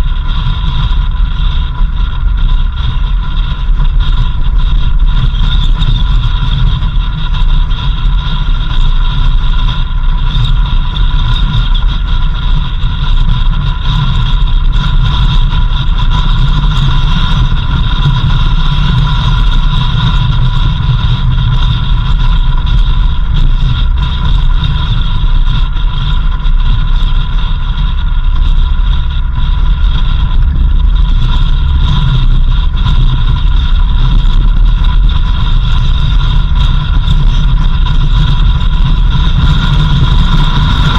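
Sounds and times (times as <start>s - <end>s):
steady high whine: 0.0s - 40.9s
vehicle engine and road rumble: 0.0s - 40.9s.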